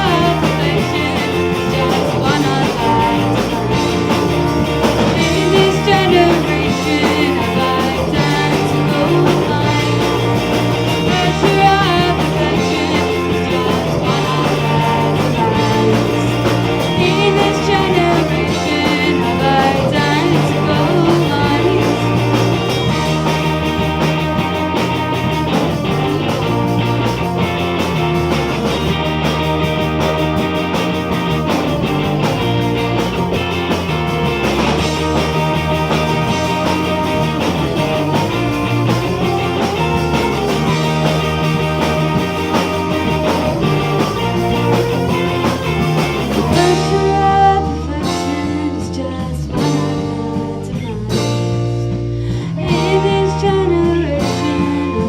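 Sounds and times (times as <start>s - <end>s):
bass guitar: 0.0s - 55.0s
drums with cymbals: 0.0s - 55.0s
electric guitar: 0.0s - 55.0s.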